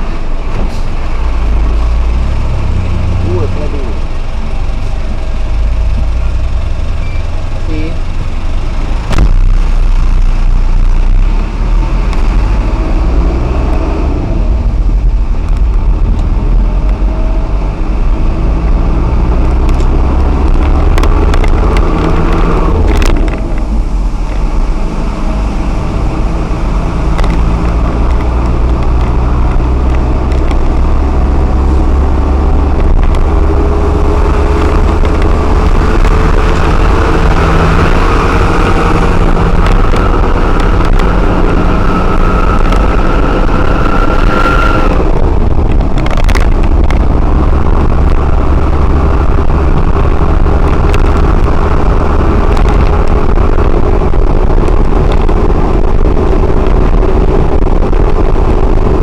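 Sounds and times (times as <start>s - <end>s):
lorry engine and road rumble: 0.0s - 59.0s.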